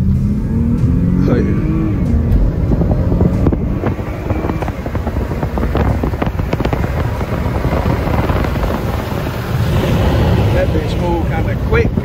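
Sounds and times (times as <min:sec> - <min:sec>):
car interior driving noise: 0:00.0 - 0:12.0.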